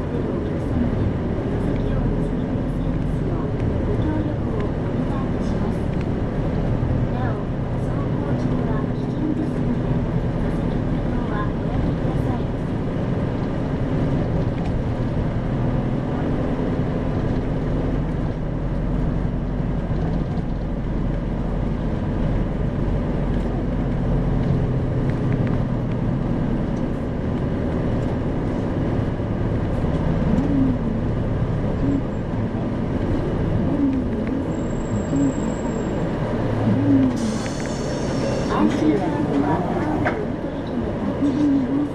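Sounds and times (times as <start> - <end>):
bus diesel engine drone: 0.0 - 41.9
road noise: 0.0 - 41.9.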